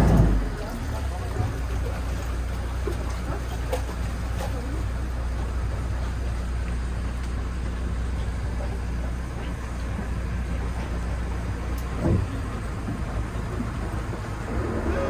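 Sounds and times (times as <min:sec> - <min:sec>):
boat engine drone: 0:00.0 - 0:15.0
water and hull noise: 0:00.0 - 0:15.0.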